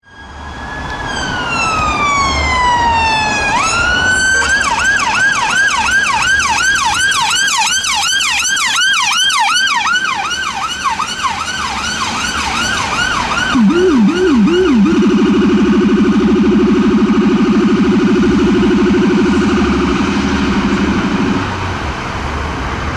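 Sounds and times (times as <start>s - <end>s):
deep low-frequency siren yelp: 0.0s - 21.8s
siren wailing and yelping: 0.2s - 21.5s.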